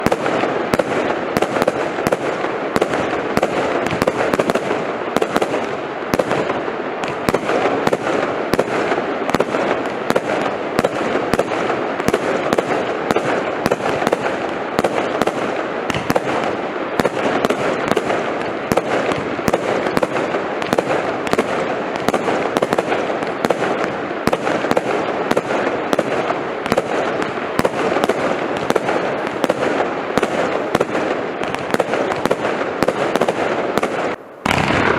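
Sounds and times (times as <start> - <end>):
firework bangs: 0.0 - 34.9
firework crackling: 0.0 - 34.9.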